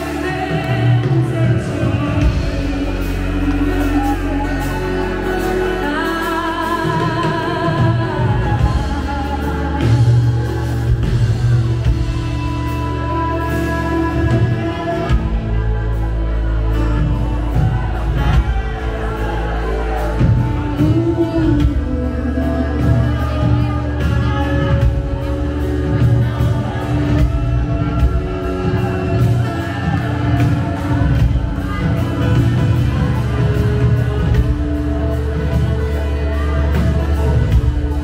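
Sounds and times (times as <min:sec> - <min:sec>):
bass guitar: 0:00.0 - 0:38.0
electric and acoustic guitars: 0:00.0 - 0:38.0
woman singing: 0:00.0 - 0:38.0.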